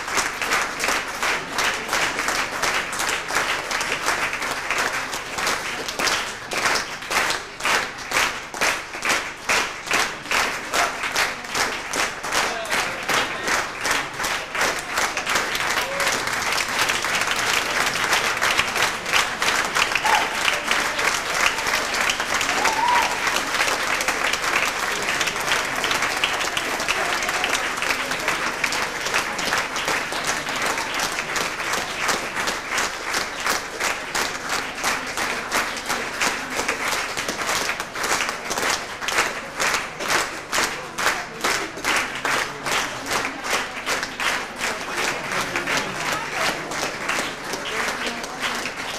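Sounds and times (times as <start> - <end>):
audience applauding: 0.0 - 48.9.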